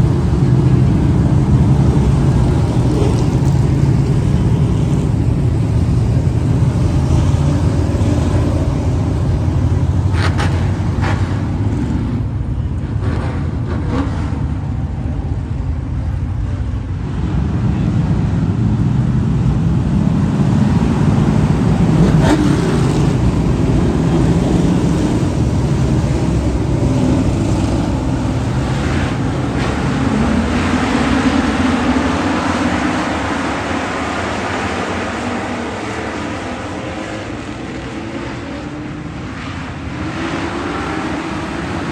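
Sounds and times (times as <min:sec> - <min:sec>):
vehicle engines rumbling: 0:00.0 - 0:41.9.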